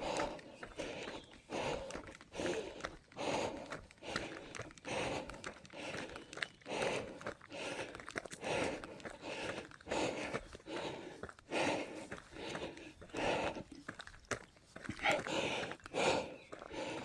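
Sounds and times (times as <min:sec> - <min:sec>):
heavy rhythmic breathing: 0:00.0 - 0:17.0.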